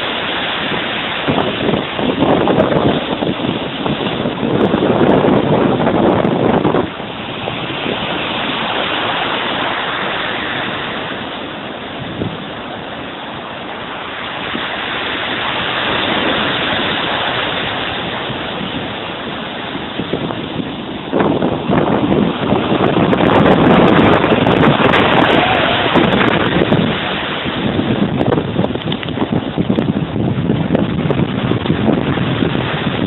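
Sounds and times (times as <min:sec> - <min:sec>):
sea waves breaking ashore: 0:00.0 - 0:33.0.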